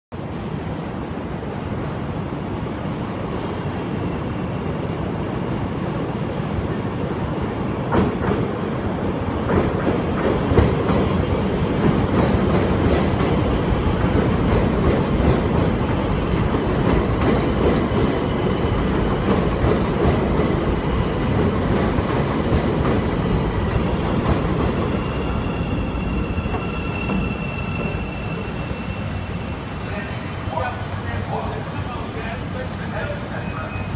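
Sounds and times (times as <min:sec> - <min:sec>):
train wheels rumbling on rail: 0:00.2 - 0:33.9.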